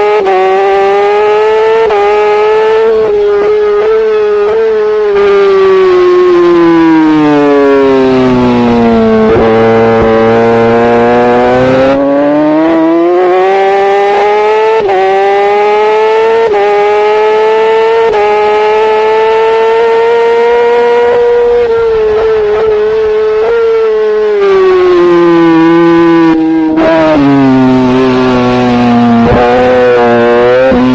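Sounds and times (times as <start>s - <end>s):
superbike engine revving: 0.0s - 30.9s.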